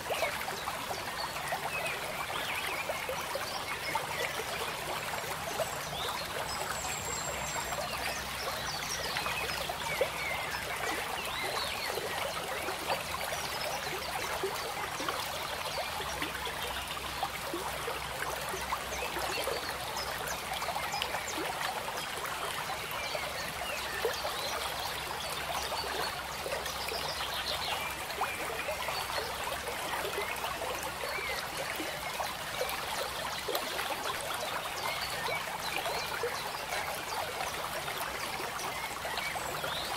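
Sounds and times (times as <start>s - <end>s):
water trickling and burbling: 0.0s - 39.9s.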